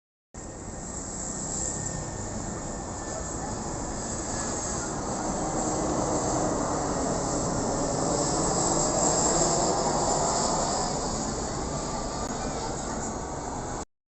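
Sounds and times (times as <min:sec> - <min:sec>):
jet airliner engines passing: 0:00.4 - 0:13.8.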